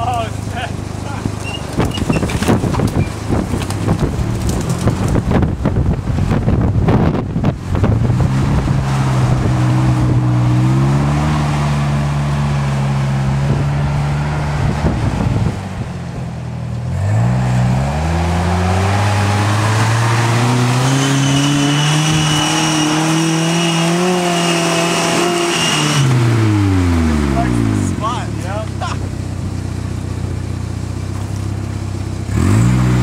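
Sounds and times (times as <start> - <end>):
off-road vehicle engine under load: 0.0 - 33.0.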